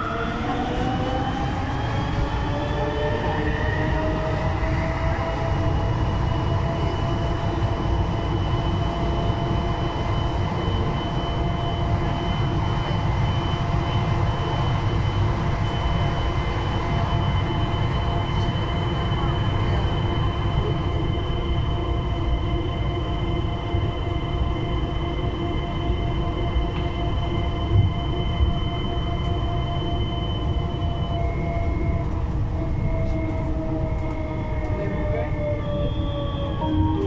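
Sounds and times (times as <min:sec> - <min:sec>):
metro train rumble: 0:00.0 - 0:37.0.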